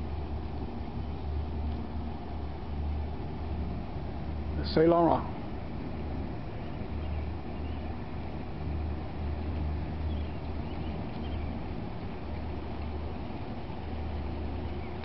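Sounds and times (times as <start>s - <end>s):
ship diesel machinery rumble: 0.0s - 15.0s.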